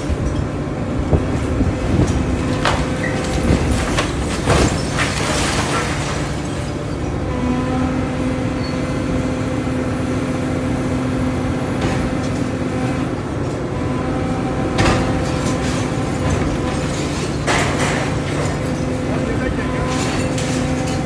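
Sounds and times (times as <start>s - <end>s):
engine whine: 0.0s - 21.0s
excavator diesel engine running: 0.0s - 21.0s.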